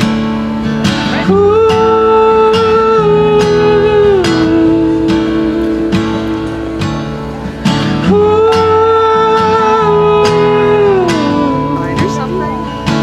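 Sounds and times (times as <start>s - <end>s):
song with guitar and beat: 0.0s - 13.0s.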